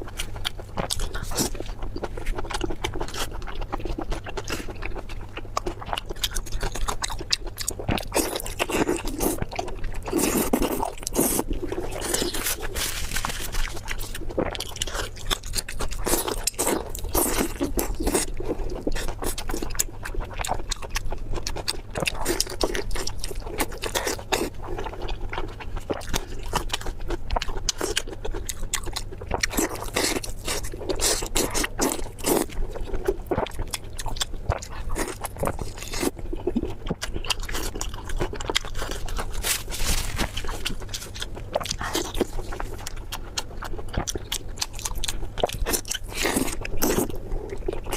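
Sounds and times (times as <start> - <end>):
wet chewing and crunching: 0.0 - 47.9.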